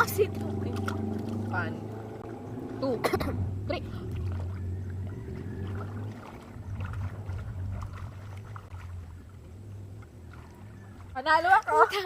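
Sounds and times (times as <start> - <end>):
low steady rumble: 0.0 - 12.0
small faint splashes: 0.0 - 12.0
water moving gently: 0.0 - 12.0.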